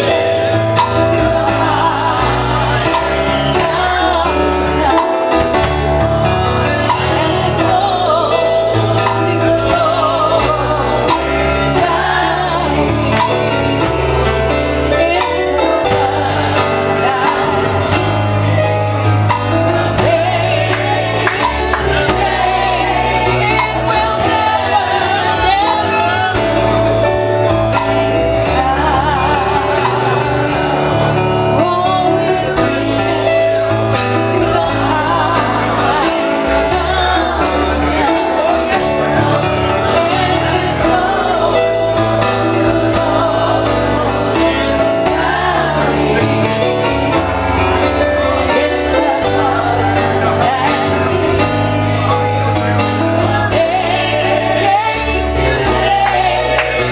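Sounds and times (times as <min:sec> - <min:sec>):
percussion hits: 0:00.0 - 0:04.2, 0:11.0 - 0:31.5, 0:32.6 - 0:56.9
bass notes: 0:00.0 - 0:56.9
gospel singing voices: 0:00.0 - 0:56.9.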